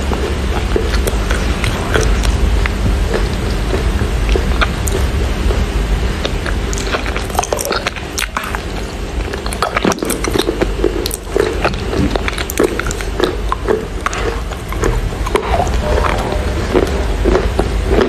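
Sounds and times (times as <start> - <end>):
chewing wet clay crunching: 0.0 - 18.0.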